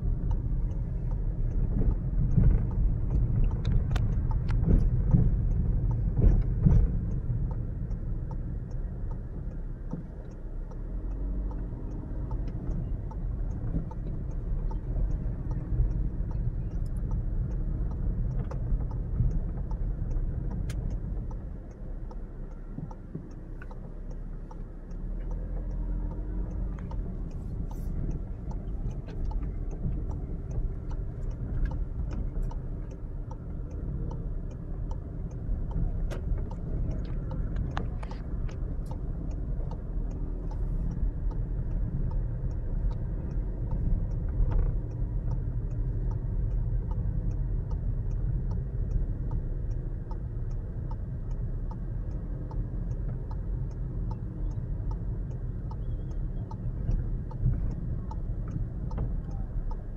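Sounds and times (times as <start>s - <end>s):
car engine and road rumble: 0.0s - 59.9s
fast even ticking: 0.0s - 59.9s.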